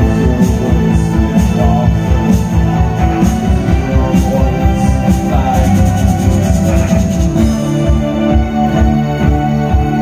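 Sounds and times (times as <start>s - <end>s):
synthesizer chords: 0.0s - 10.0s.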